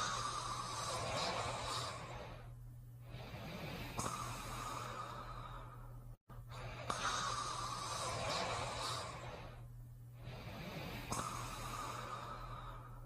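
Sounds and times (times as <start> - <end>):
low steady hum: 0.0 - 13.0
noisy breathing of a sleeper: 0.0 - 13.0.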